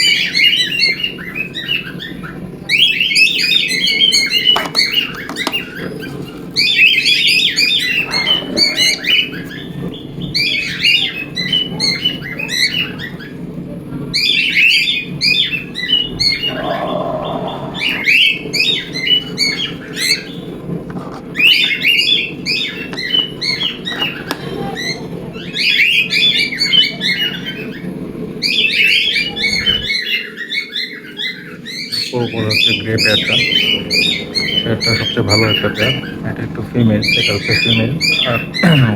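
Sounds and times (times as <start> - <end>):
steady low hum: 0.0 - 30.0, 31.9 - 38.9
cockatiels chirping: 0.0 - 38.9.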